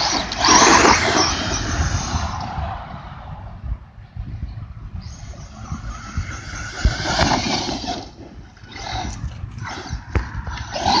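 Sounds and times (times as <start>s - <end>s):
electric rc car motor whine: 0.0s - 3.1s, 4.9s - 11.0s.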